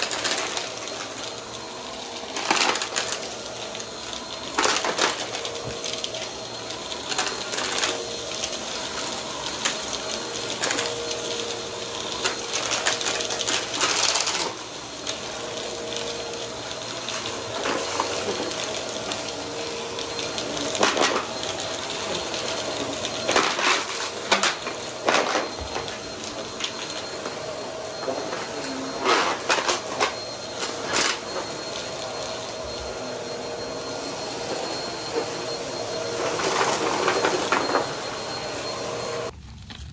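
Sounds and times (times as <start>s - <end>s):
vacuum cleaner running: 0.0s - 39.5s.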